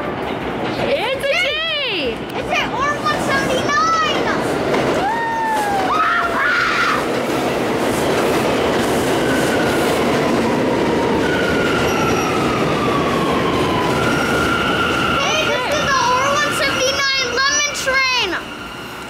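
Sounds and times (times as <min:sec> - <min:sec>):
rumble of train wheels: 0:00.0 - 0:19.0.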